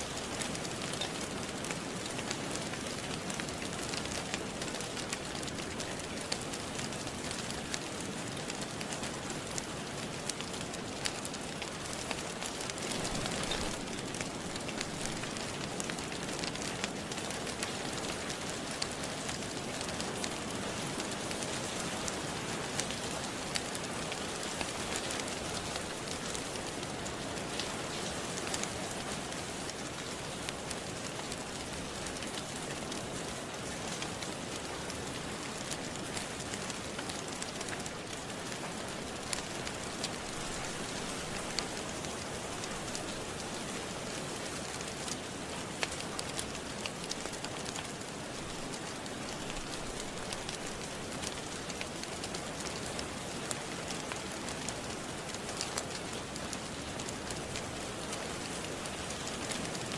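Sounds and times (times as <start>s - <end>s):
steady rain falling: 0.0s - 59.9s
wood fire crackling and popping: 0.0s - 59.9s.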